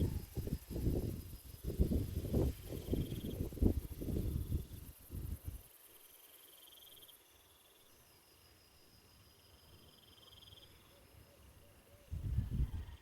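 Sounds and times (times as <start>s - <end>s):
insect chirping trills: 0.0s - 13.0s.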